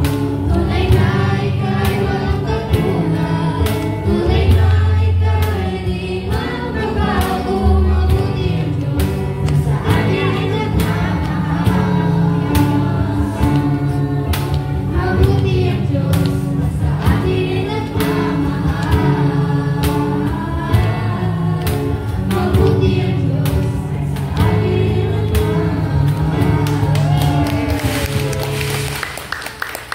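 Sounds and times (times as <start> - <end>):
small band playing: 0.0 - 29.9
woman singing: 0.3 - 27.5.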